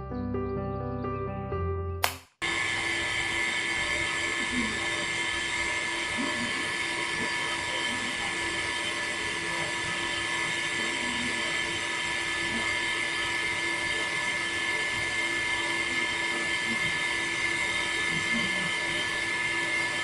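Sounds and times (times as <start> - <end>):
small electric motor whining: 2.6 - 20.0.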